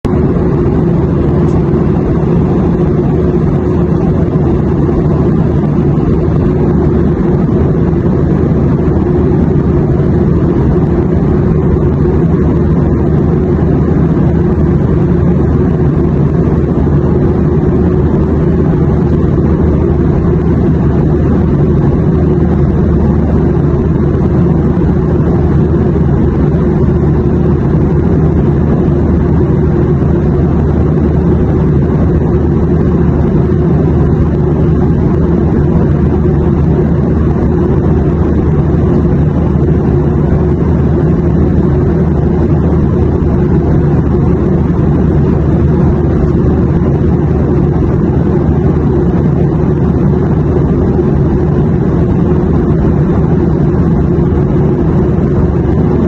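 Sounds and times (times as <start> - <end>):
airliner cabin drone: 0.0 - 56.0
faint steady hum: 0.0 - 56.0.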